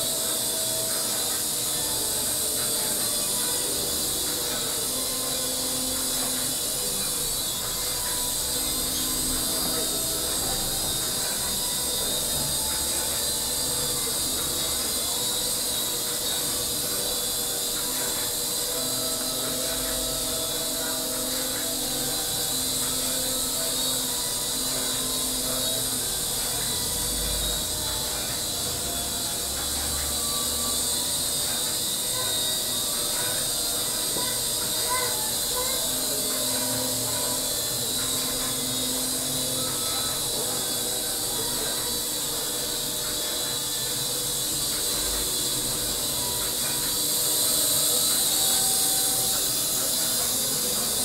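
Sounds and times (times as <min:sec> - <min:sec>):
small helicopter rotors whirring: 0:00.0 - 0:51.0.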